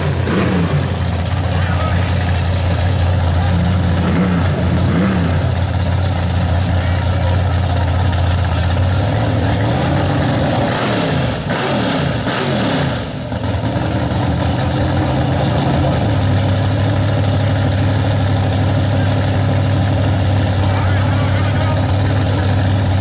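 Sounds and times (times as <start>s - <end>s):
truck engines idling loudly: 0.0s - 23.0s.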